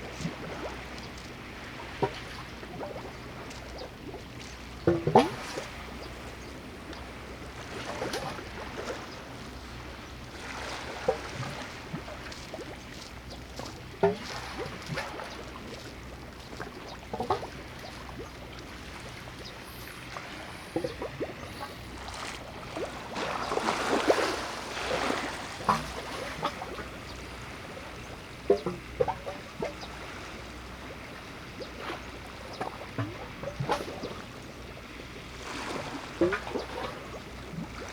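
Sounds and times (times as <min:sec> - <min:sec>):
water lapping and splashing: 0:00.0 - 0:37.9.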